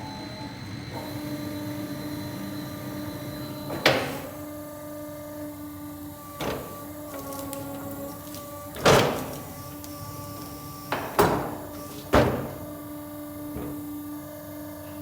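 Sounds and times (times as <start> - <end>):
sawmill machinery humming: 0.0 - 15.0.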